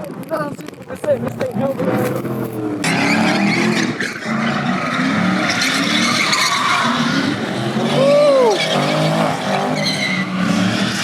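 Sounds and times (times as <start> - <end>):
car engine revving: 0.0 - 11.0
tyres squealing and skidding: 0.6 - 11.0.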